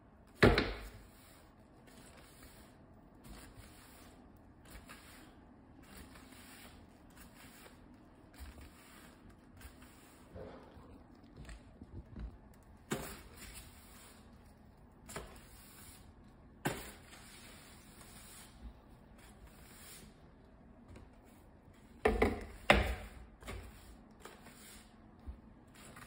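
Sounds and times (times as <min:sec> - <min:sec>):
broom sweeping hardwood floor: 0:00.2 - 0:26.0.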